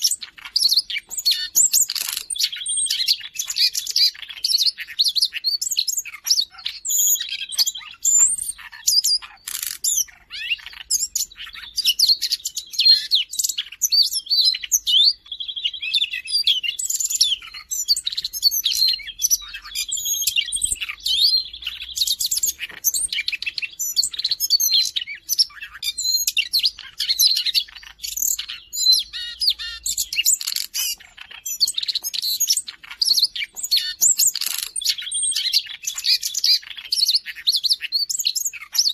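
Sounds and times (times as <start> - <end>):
bird warbling song: 0.0 - 38.9.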